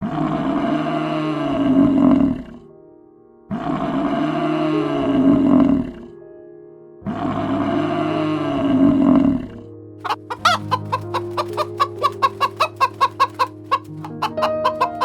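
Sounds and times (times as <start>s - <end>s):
quiet steady music tones: 0.1s - 15.0s.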